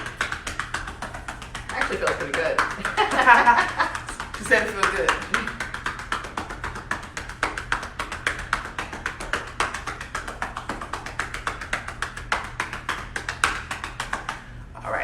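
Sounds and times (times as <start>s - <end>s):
hands patting a back: 0.0s - 14.5s.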